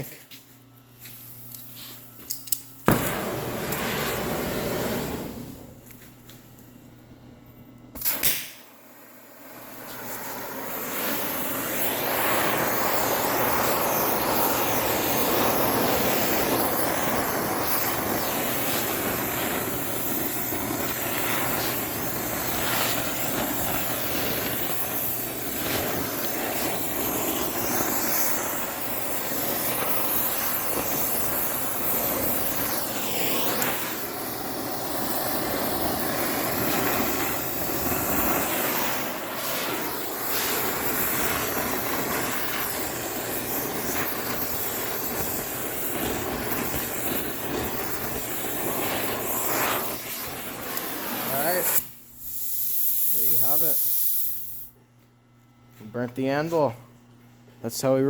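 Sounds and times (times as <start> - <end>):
cutting torch flame hissing: 1.0 - 6.2, 7.9 - 54.8.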